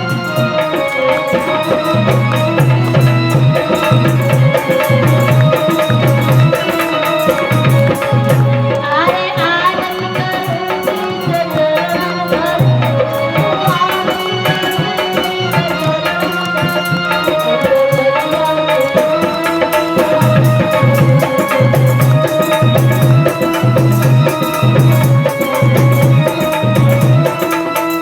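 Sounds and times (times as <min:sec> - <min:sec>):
sustained melody lines: 0:00.0 - 0:28.0
tabla beat: 0:00.0 - 0:28.0.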